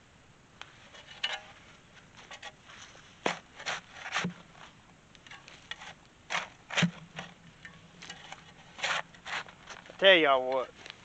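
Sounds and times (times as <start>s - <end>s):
shovel scraping gravelly dirt: 0.7s - 11.0s.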